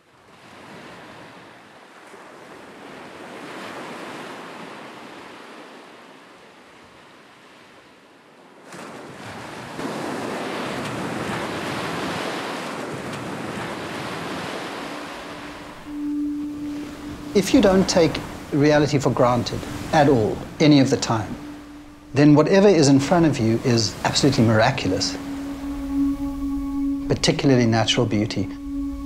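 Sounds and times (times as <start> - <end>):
sea waves washing onto shore: 0.0 - 28.6.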